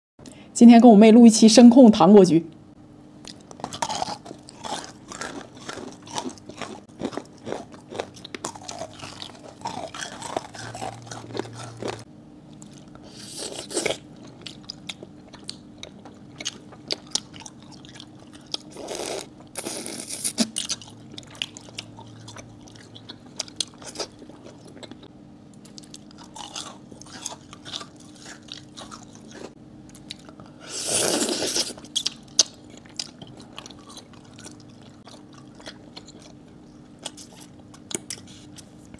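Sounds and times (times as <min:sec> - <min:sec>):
crunching and chewing candy: 0:03.2 - 0:38.9.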